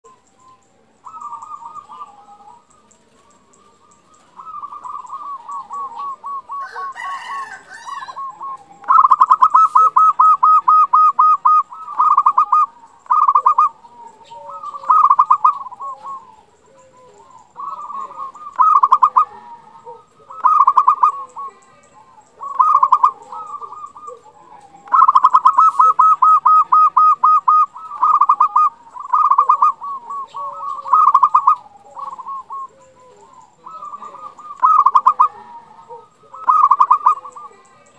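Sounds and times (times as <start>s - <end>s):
dove cooing: 0.0s - 37.9s.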